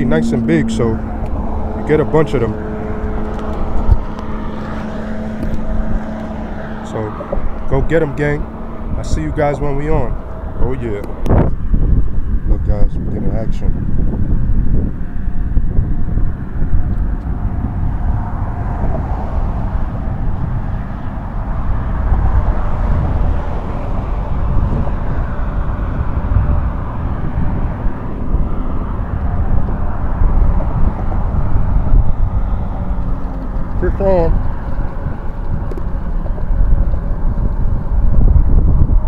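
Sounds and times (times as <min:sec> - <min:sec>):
jet airliner passing overhead: 0:00.0 - 0:13.8, 0:14.6 - 0:39.0.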